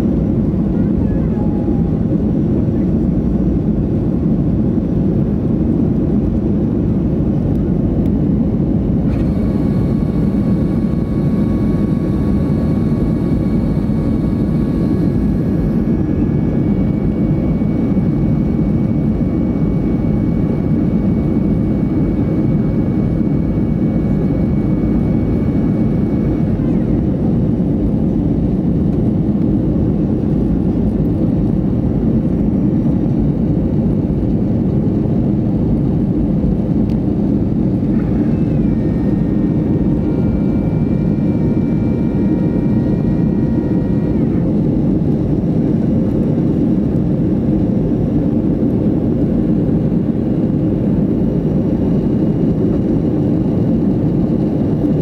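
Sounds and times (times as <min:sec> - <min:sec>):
airflow over fuselage: 0:00.0 - 0:55.0
jet engines droning: 0:00.0 - 0:55.0.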